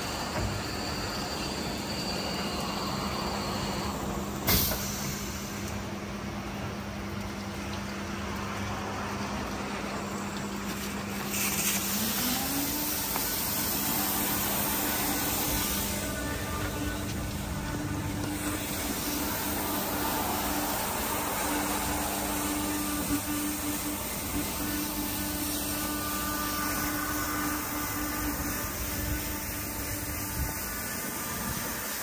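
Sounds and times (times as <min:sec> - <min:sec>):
hiss: 0:00.0 - 0:06.3, 0:08.8 - 0:32.0
car wash motor hum: 0:00.0 - 0:32.0.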